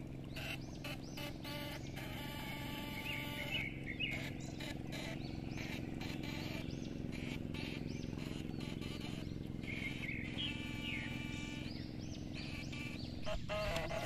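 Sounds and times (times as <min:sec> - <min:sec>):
low mechanical hum: 0:00.0 - 0:14.0
bird chirps: 0:00.3 - 0:14.0.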